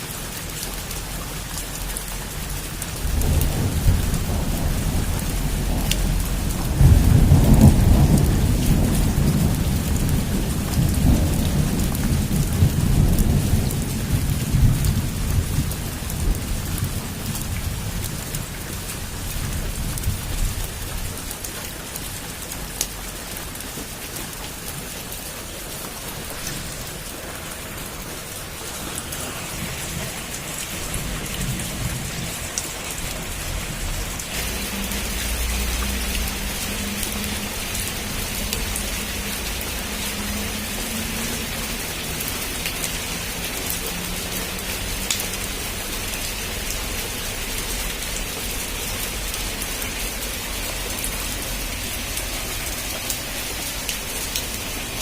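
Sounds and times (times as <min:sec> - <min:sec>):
heavy rain falling: 0:00.0 - 0:55.0
thunder rumbling: 0:02.4 - 0:21.5, 0:25.0 - 0:55.0.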